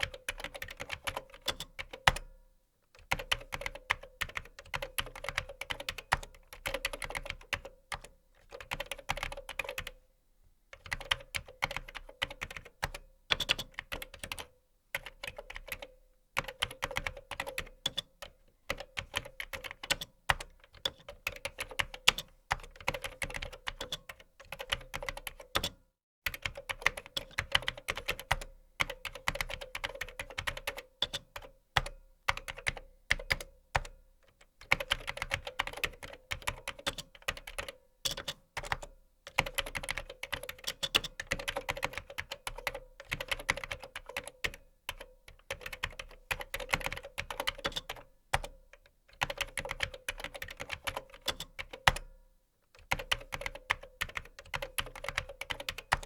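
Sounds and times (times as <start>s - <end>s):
fast keyboard typing: 0.0s - 2.2s, 3.0s - 10.0s, 10.8s - 25.7s, 26.3s - 33.9s, 34.6s - 48.6s, 49.2s - 52.0s, 52.8s - 56.0s.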